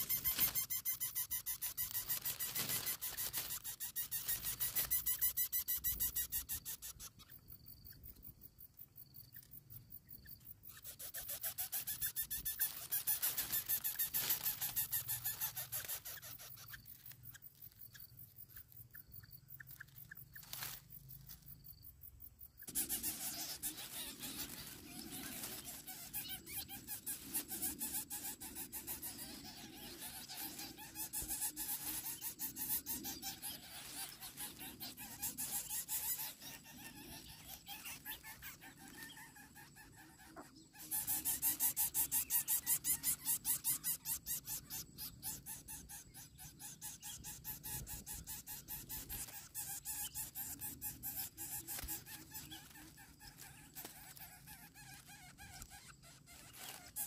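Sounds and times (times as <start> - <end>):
nestlings raspy buzzing calls: 0.0 - 8.2, 10.3 - 21.7, 22.6 - 57.0.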